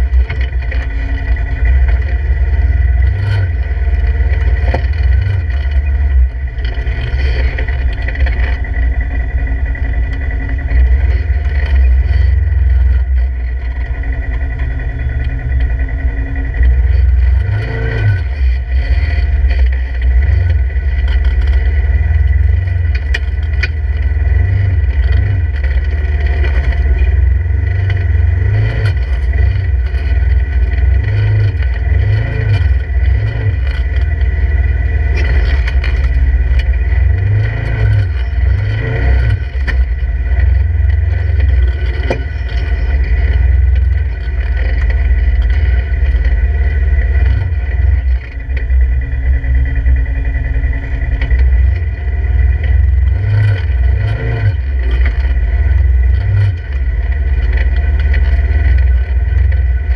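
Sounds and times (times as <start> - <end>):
tyres and chassis scraping rock: 0.0 - 59.9
vehicle engine revving: 0.0 - 59.9.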